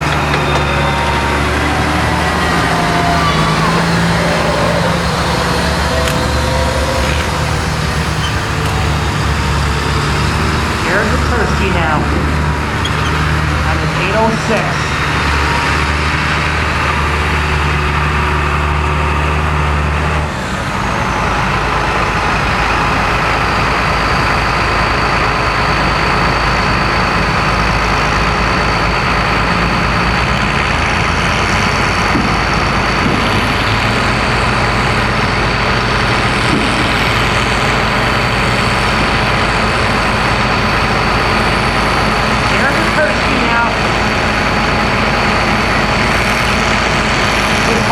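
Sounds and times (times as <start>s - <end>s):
tractor engine working hard: 0.0s - 47.9s.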